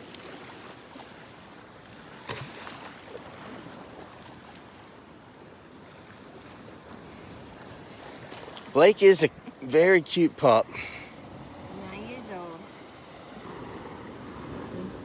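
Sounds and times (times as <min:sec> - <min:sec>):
wind and surf rushing: 0:00.0 - 0:15.0.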